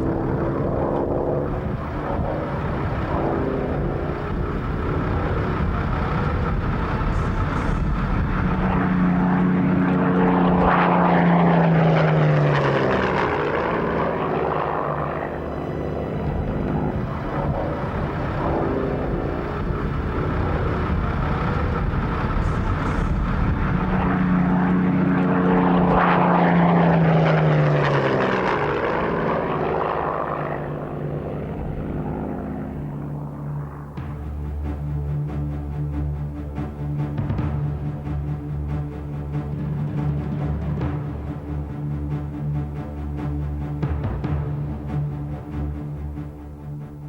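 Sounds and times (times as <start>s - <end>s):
propeller plane flying past: 0.0s - 47.0s.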